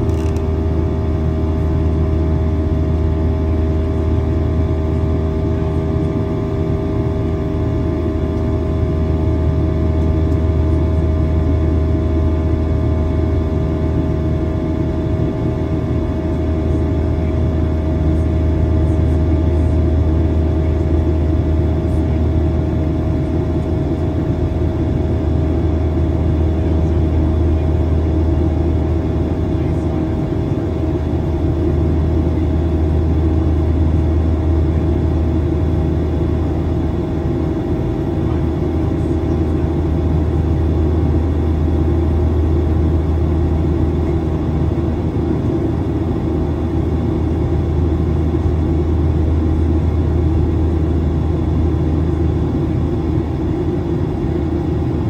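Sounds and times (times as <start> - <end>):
faint steady hum tones: 0.0 - 55.0
jet engine cabin rumble: 0.0 - 55.0.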